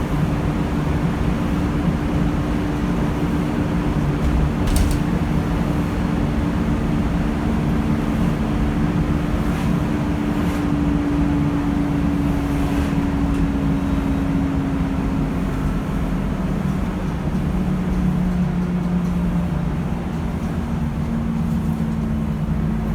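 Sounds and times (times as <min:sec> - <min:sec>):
bus engine running: 0:00.0 - 0:22.9.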